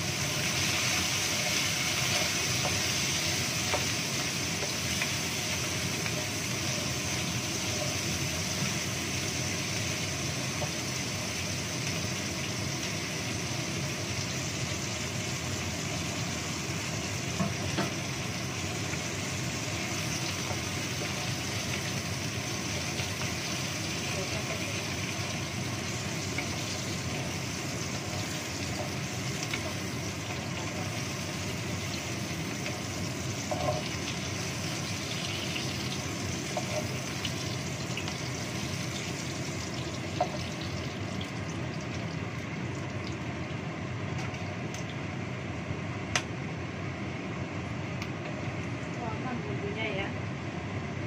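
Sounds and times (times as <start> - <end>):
vegetables sizzling in a wok: 0.0 - 51.0.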